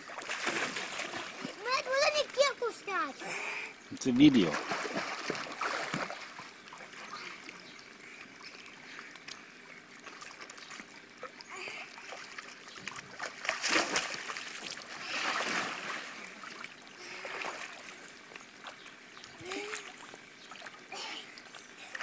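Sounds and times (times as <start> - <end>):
children splashing in water: 0.0 - 3.6, 4.3 - 7.7, 10.0 - 22.0.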